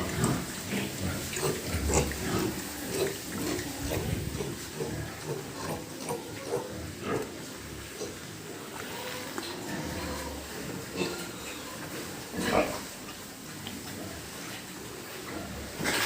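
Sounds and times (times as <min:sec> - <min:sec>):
pigs grunting and squealing: 0:00.0 - 0:13.0, 0:15.2 - 0:16.0.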